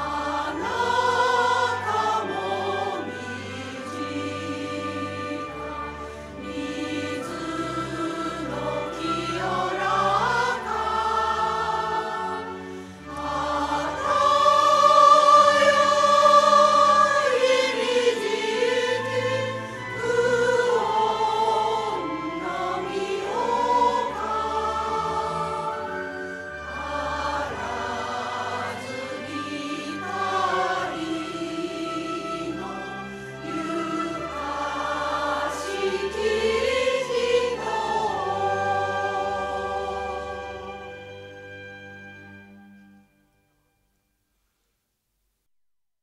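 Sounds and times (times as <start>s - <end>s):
choir singing long notes: 0.0s - 43.1s.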